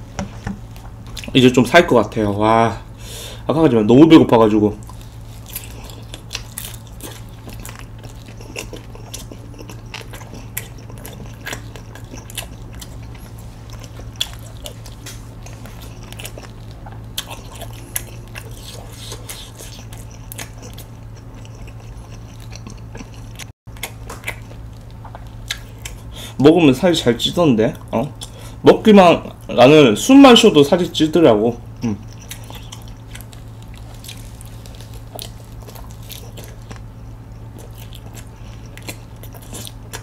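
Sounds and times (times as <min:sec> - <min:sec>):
chewing crispy food: 0:00.7 - 0:02.6, 0:04.0 - 0:29.6, 0:30.2 - 0:40.0.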